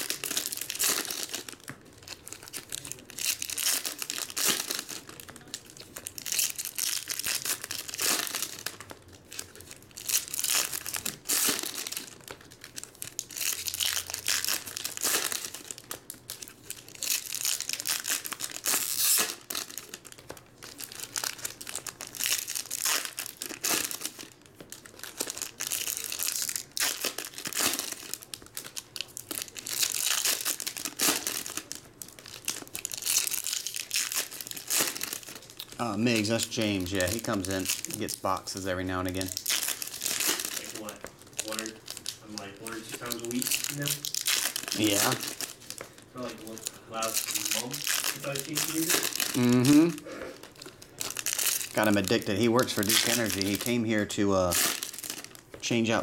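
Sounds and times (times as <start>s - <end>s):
foil wrappers crinkling and tearing: 0.0s - 56.0s.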